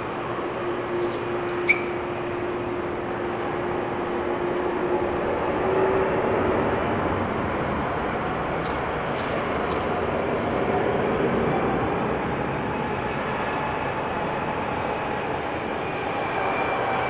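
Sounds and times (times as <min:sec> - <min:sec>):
jet engines rushing and droning: 0:00.0 - 0:17.0.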